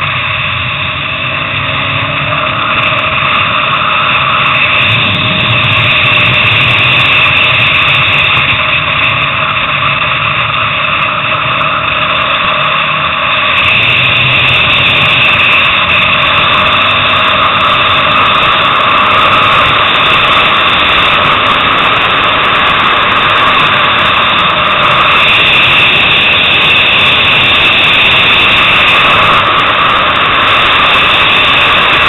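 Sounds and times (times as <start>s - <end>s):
motorcycle engine running hard: 0.0s - 32.0s
wind rushing over microphone: 0.0s - 32.0s.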